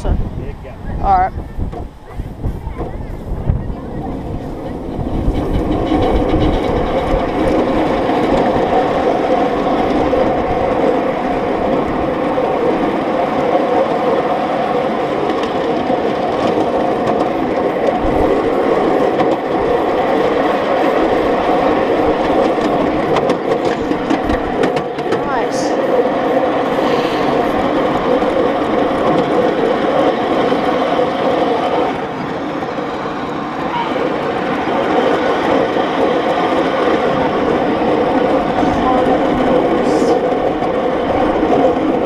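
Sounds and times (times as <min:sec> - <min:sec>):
wheels rumbling on rails: 0:00.0 - 0:42.0.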